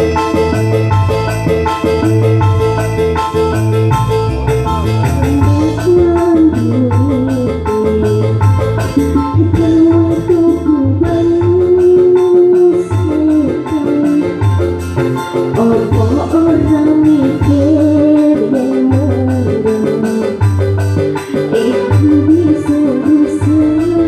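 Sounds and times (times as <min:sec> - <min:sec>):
pop song with bass and drums: 0:00.0 - 0:24.0.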